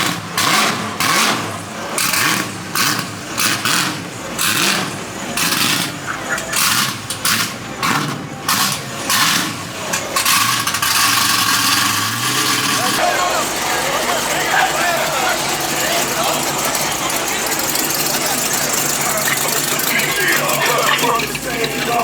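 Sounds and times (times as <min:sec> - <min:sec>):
car engine revving: 0:00.0 - 0:22.0
low engine rumble: 0:00.0 - 0:22.0.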